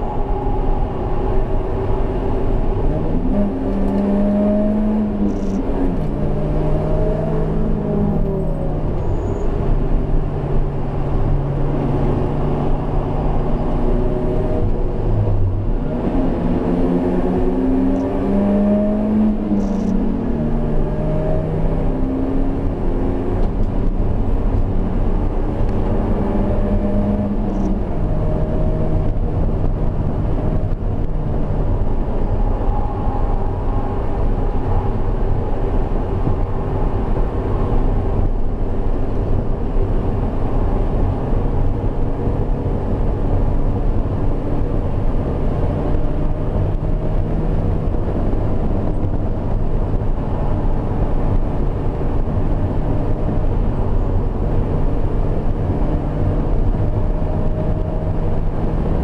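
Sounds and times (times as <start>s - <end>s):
car engine revving: 0.0s - 9.1s, 10.1s - 59.0s
tyre and road noise: 0.0s - 59.0s.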